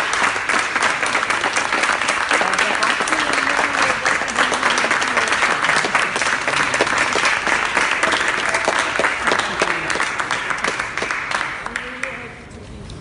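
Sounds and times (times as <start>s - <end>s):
crowd clapping: 0.0s - 12.4s.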